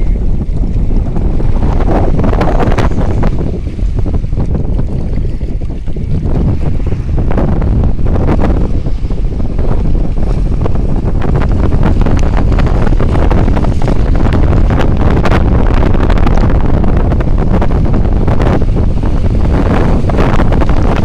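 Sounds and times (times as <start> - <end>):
storm wind buffeting microphone: 0.0 - 21.0.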